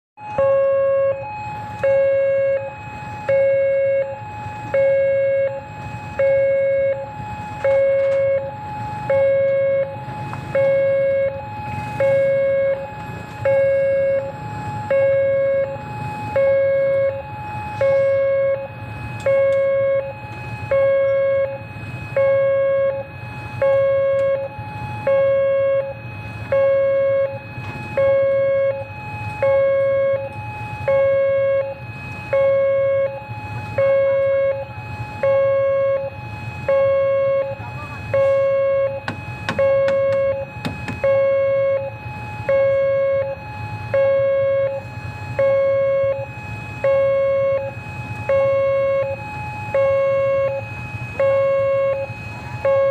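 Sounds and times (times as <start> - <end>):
two-tone crossing alarm: 0.2 - 52.9.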